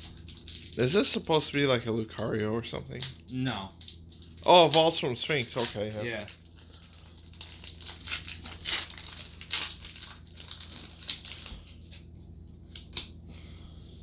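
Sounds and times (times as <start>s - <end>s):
foil wrapper crinkling and tearing: 0.0s - 13.1s.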